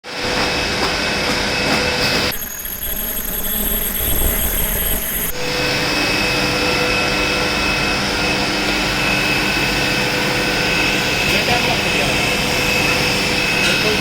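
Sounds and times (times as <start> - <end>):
steady machine hum: 0.0 - 14.0
welding machine high whine: 0.0 - 14.0.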